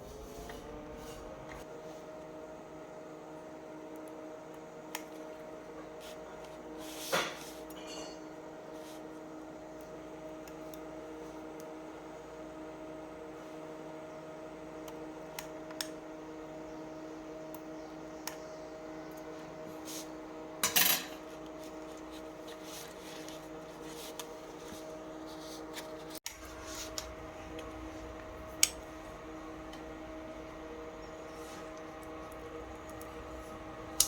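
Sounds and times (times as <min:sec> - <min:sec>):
steady low hum: 0:00.0 - 0:03.2, 0:04.0 - 0:34.0.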